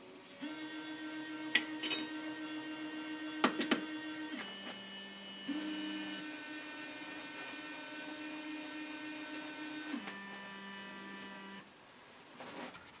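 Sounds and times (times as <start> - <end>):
powder dispenser motor whine: 0.0 - 11.8.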